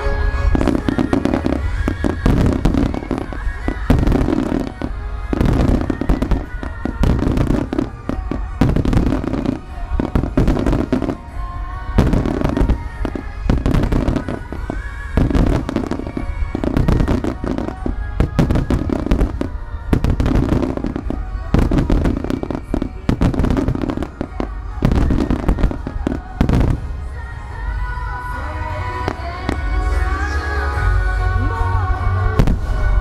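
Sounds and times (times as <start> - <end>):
fireworks cracks and booms: 0.0 - 27.0.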